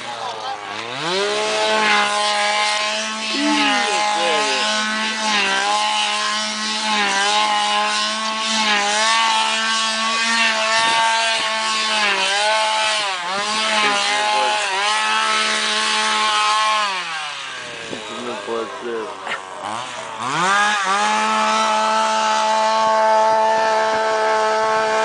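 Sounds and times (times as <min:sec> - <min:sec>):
chainsaws revving: 0:00.0 - 0:25.0.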